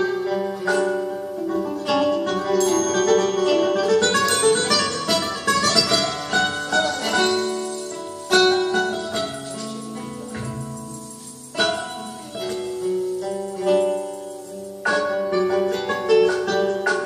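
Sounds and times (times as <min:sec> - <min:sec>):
flamenco guitars playing: 0:00.0 - 0:17.0.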